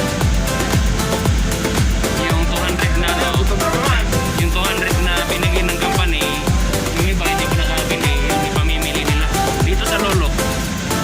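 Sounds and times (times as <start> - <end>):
deep kick drum: 0.0 - 10.5
synth melody: 0.0 - 11.0.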